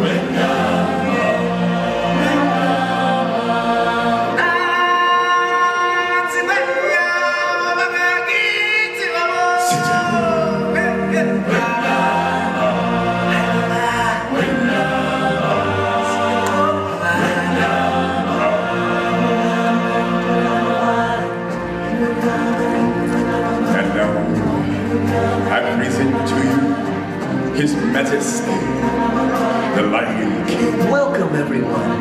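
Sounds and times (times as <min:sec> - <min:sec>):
backing music: 0:00.0 - 0:32.0
choir singing: 0:00.0 - 0:32.0.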